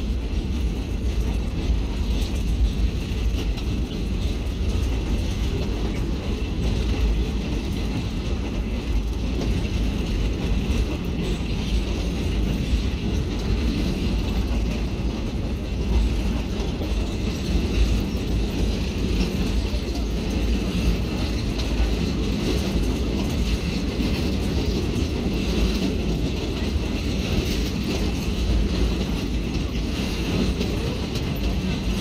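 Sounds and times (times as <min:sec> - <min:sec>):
train cars rattling on track: 0:00.0 - 0:32.0.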